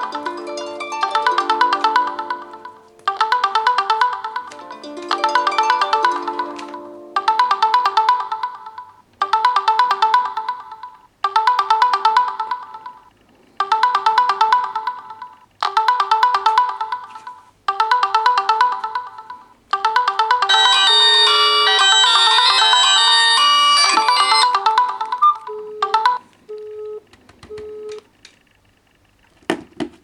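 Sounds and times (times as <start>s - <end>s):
fuller ringtone or alarm tone: 0.0s - 8.8s, 9.4s - 27.0s
trilling phone ringtone: 0.0s - 27.0s.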